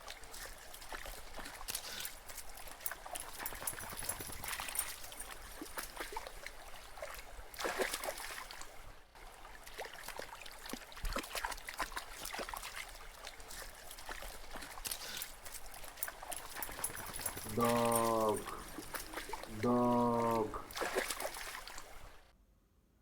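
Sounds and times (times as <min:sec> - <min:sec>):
small clicks and drips: 0:00.0 - 0:08.8, 0:09.6 - 0:19.6, 0:20.3 - 0:22.2
water trickling and splashing: 0:00.0 - 0:22.4.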